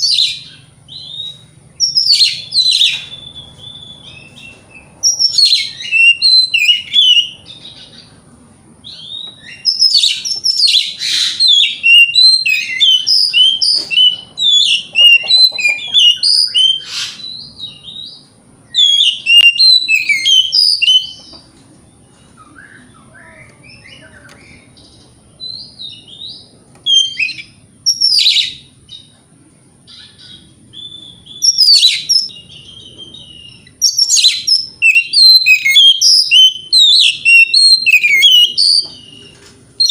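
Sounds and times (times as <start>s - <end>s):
bird singing whistles and chirps: 0.0s - 8.1s, 8.8s - 21.4s, 22.4s - 29.2s, 29.9s - 39.9s.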